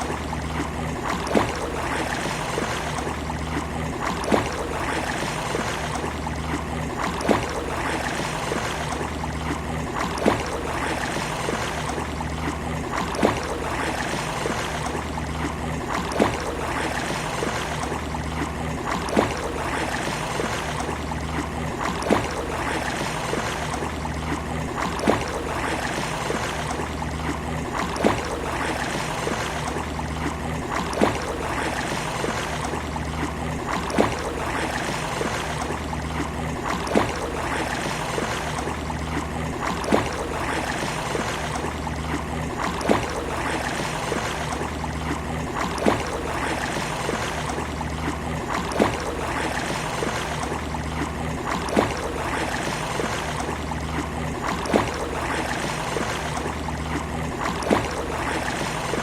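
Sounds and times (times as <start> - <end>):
sea surf and lapping water: 0.0 - 59.0.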